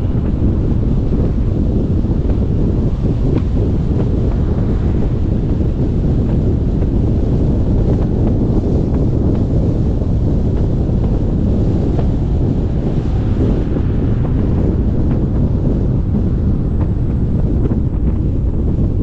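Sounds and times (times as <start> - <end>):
car road and tyre noise: 0.0 - 19.0
wind buffeting microphone: 0.0 - 19.0.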